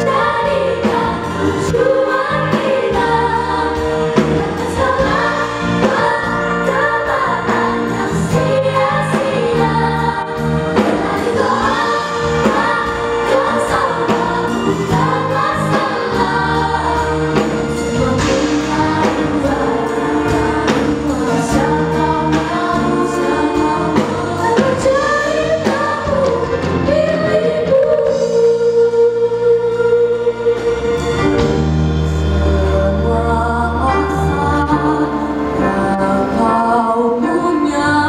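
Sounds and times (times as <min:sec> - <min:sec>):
children's choir singing: 0:00.0 - 0:31.0
soloists singing into microphones: 0:00.0 - 0:31.2
amplified backing music with beat: 0:00.0 - 0:38.0.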